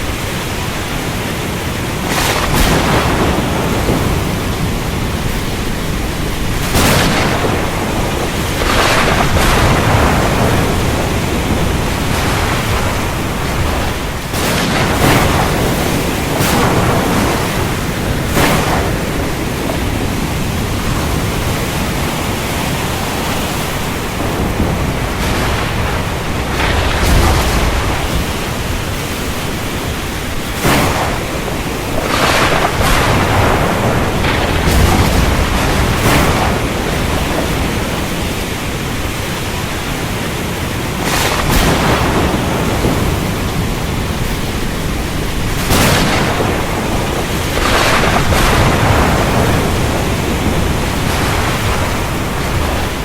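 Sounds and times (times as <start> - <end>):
deep thunder rumble: 0.0 - 53.0
heavy rain: 0.0 - 53.0
thunder cracks: 0.0 - 53.0.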